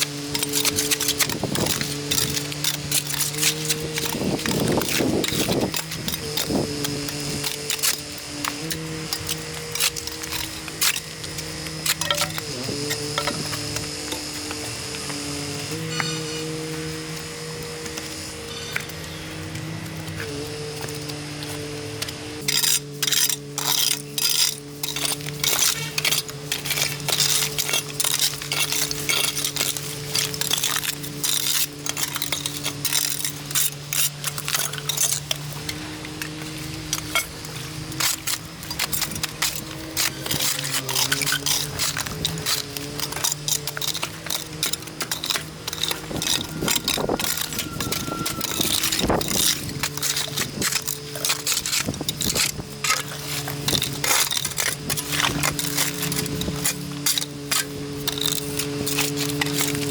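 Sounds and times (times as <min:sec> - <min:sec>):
hard objects clinking: 0:00.0 - 0:59.9.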